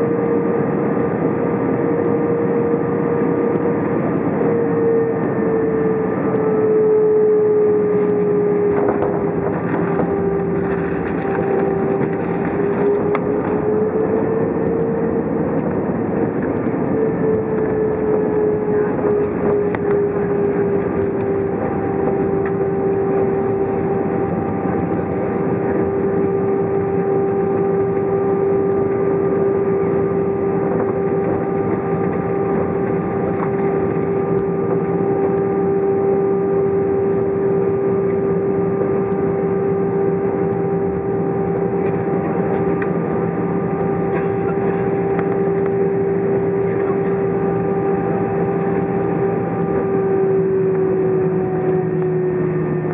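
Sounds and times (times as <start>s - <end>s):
jet engine whine: 0.0s - 52.9s.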